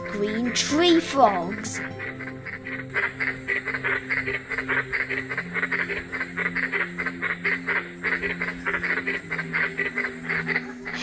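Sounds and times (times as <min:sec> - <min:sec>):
tree frogs croaking: 0:00.0 - 0:11.0.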